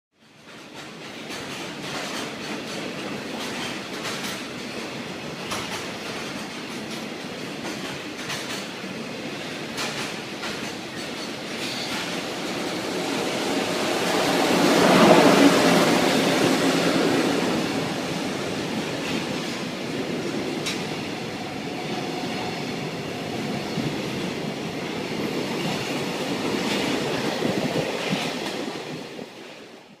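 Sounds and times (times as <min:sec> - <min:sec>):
freight train rumbling past: 0:00.3 - 0:30.0.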